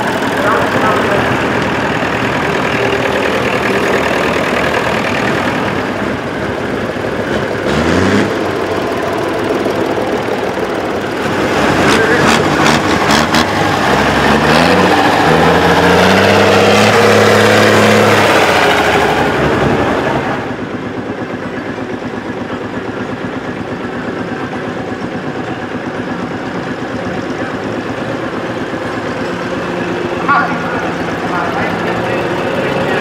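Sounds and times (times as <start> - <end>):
tractor engine pulling away: 0.0 - 33.0
tractor engine running slowly: 0.0 - 33.0.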